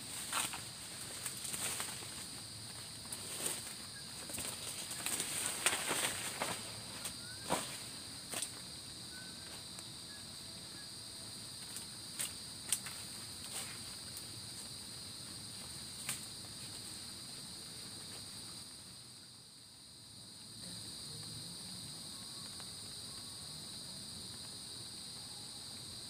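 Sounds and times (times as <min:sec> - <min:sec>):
crickets shrilling: 0:00.0 - 0:26.0.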